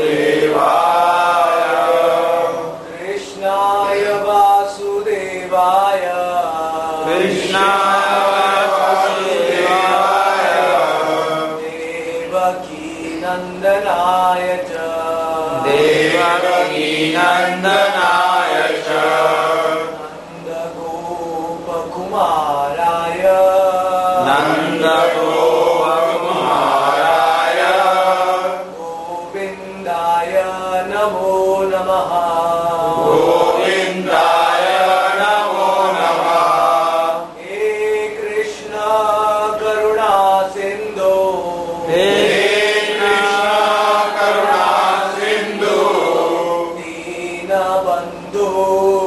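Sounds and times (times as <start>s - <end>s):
man chanting: 0.0s - 49.0s.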